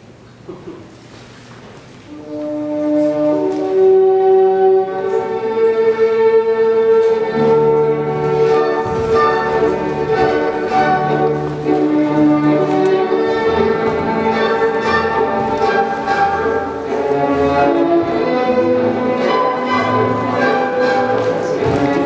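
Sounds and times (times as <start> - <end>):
orchestral music with brass and strings: 2.1 - 22.0.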